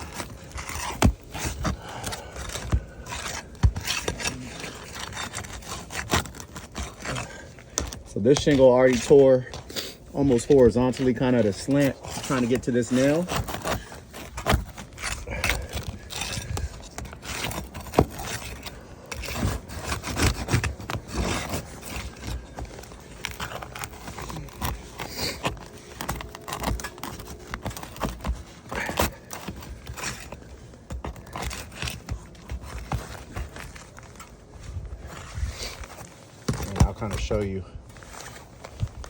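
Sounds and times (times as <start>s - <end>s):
metal bar scraping shingles: 0.0s - 38.8s
shingles tearing: 0.0s - 39.0s.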